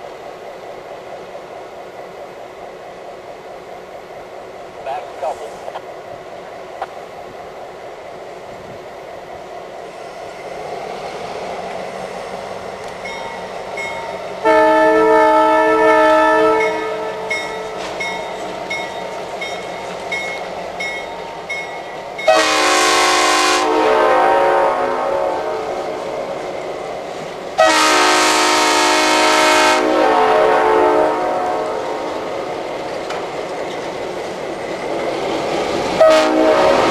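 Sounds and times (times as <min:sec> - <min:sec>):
diesel locomotive engines: 0:00.0 - 0:36.9.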